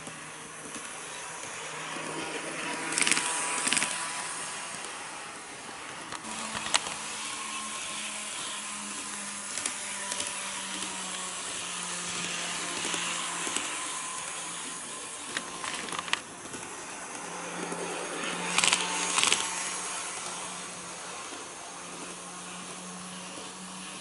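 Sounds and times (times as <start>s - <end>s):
model train motor hum: 0.0s - 24.0s
wheels hissing on rails: 0.0s - 24.0s.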